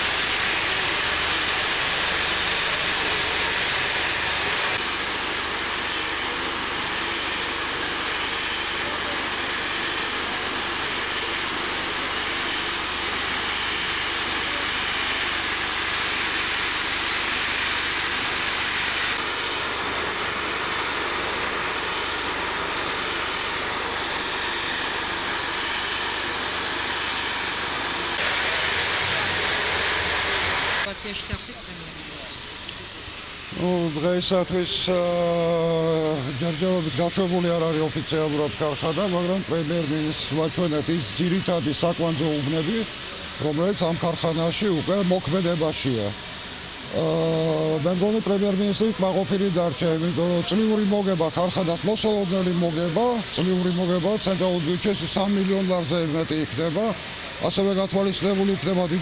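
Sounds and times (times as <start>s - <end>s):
industrial machinery noise: 0.0s - 59.0s.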